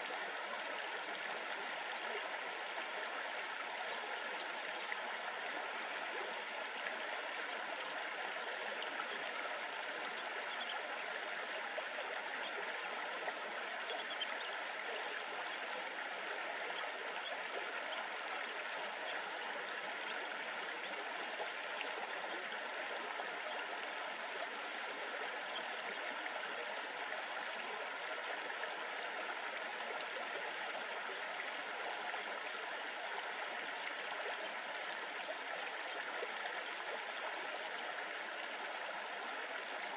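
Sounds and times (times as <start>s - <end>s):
shallow river water babbling: 0.0s - 39.9s.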